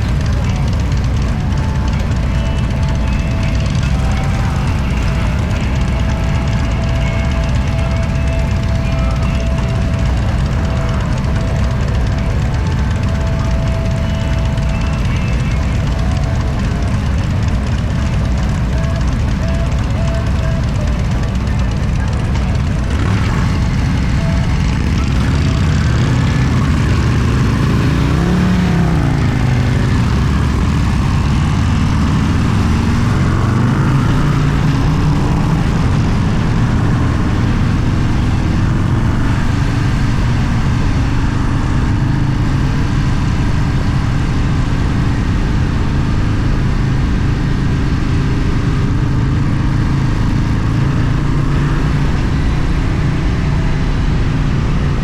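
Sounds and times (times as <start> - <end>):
vehicle engine running: 0.0 - 55.0
wind and road noise: 0.0 - 55.0.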